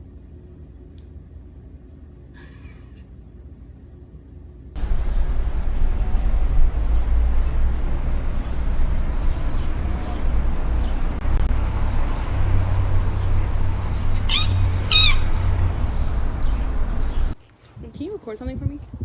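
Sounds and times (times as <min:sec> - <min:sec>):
steady low rumble: 0:03.2 - 0:19.0.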